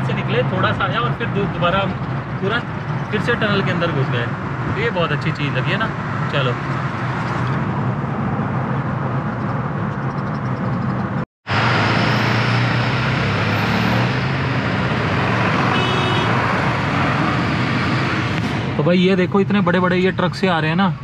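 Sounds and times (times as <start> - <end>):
vehicle drone: 0.0 - 20.2
car engine and road noise: 0.0 - 21.0.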